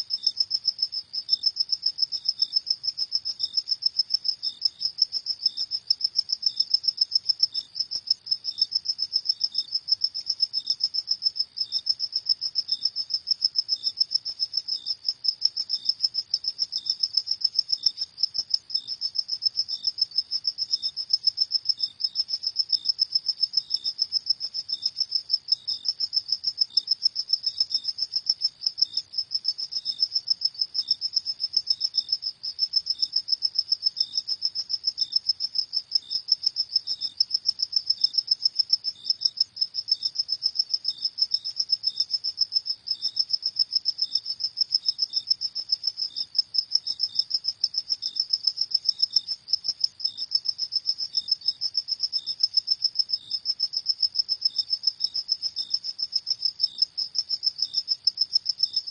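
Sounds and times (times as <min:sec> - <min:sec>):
softer lower cricket chirp: 0:00.0 - 0:58.9.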